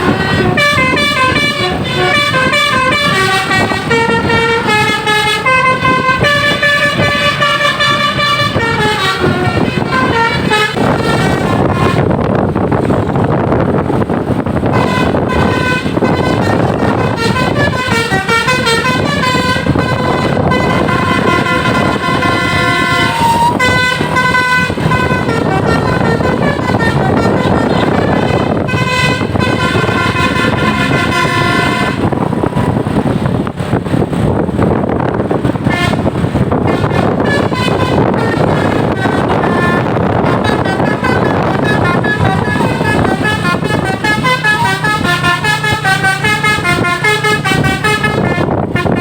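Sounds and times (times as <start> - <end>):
warbling multi-tone air horn: 0.0 - 13.0, 14.0 - 49.0
engine and road noise: 0.0 - 49.0.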